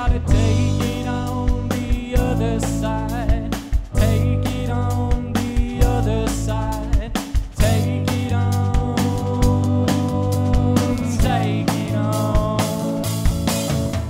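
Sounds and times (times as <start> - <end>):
bass guitar: 0.0 - 14.0
drum kit beat: 0.0 - 14.0
electric guitar: 0.0 - 14.0
keyboard: 0.0 - 14.0.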